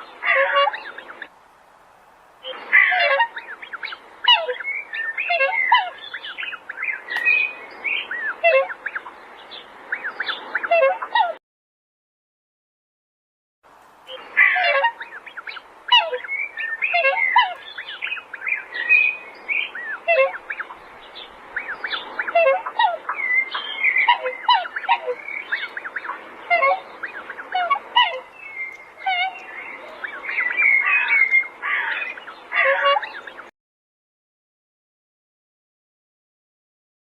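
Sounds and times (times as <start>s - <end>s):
farmyard birds calling: 0.0s - 1.3s, 2.4s - 11.4s, 14.1s - 33.5s.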